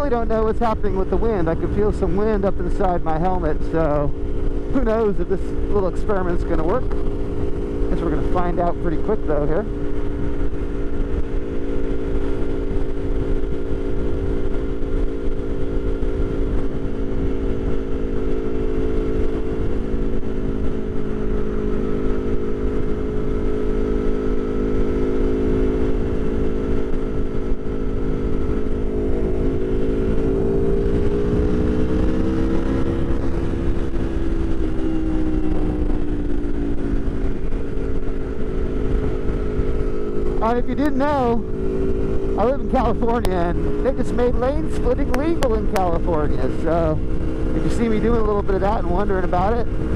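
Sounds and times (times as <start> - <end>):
low wind rumble: 0.0 - 49.9
motorcycle engine cruising: 0.0 - 49.9.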